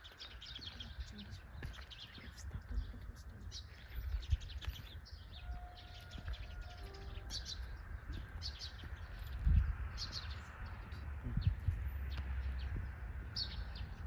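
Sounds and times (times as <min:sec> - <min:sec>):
steady low rumble: 0:00.0 - 0:05.5, 0:06.2 - 0:14.0
small birds chirping: 0:00.0 - 0:14.0.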